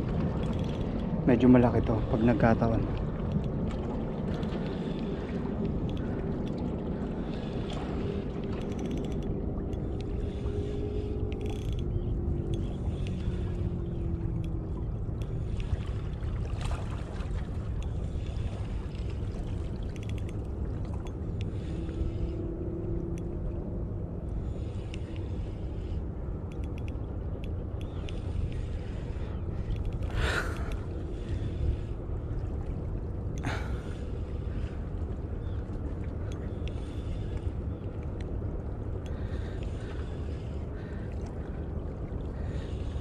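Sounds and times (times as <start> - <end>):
faint steady hum: 0.0 - 43.0
wind rumble on microphone: 0.0 - 43.0.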